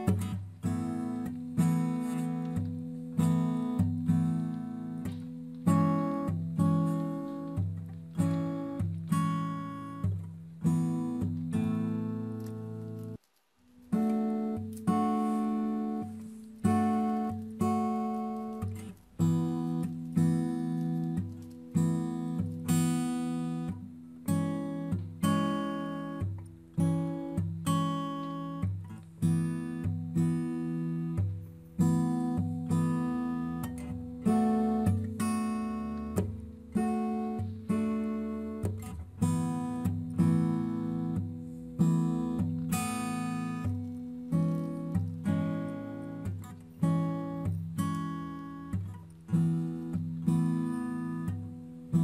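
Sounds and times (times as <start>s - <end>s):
acoustic guitar strumming chords: 0.0s - 52.0s.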